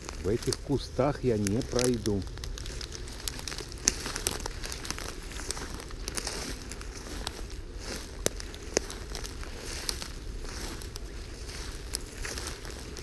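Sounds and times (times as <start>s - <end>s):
dry grass rustling underfoot: 0.0s - 13.0s
stems snapping: 0.0s - 13.0s.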